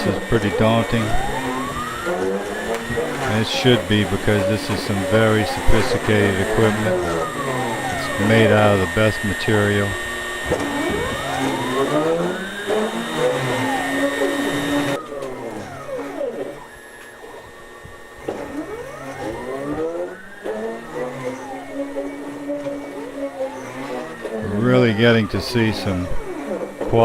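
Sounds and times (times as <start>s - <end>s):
small motorised machine whirring: 0.0s - 27.0s.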